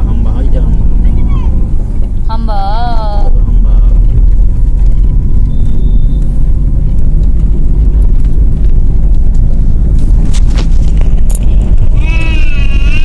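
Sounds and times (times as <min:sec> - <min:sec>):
car rumbling in motion: 0:00.0 - 0:13.0.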